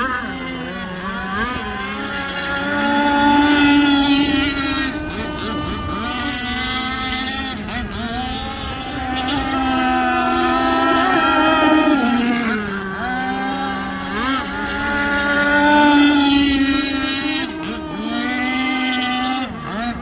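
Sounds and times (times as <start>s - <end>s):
model speedboat engine running: 0.0s - 20.0s.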